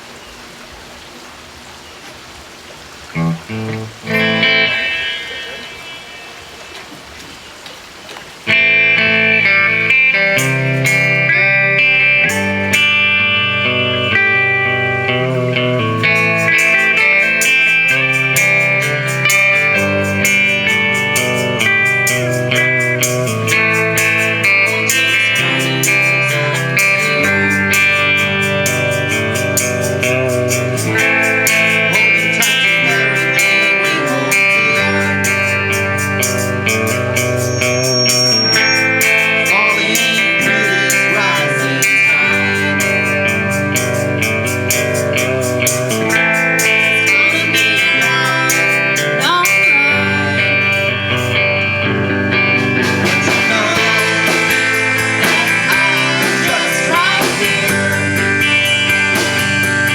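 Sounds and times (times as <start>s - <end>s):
guitars: 3.0s - 59.9s
live band playing slow song: 8.6s - 59.9s.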